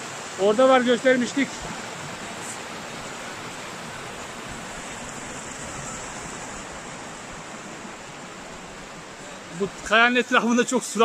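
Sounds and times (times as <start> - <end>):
water gushing from a spring: 0.0 - 11.0.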